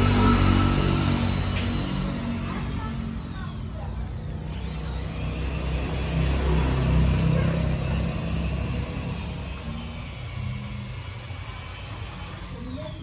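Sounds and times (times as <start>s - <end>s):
vehicle engine low rumble: 0.0s - 11.8s.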